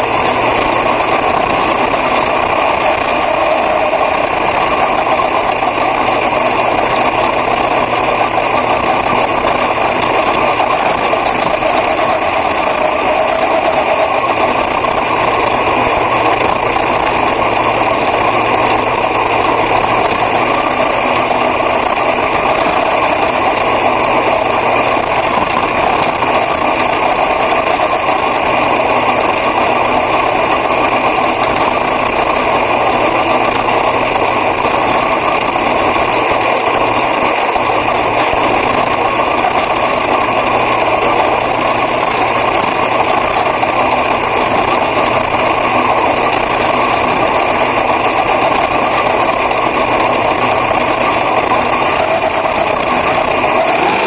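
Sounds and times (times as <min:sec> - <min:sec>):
racing car engine running: 0:00.0 - 0:54.0.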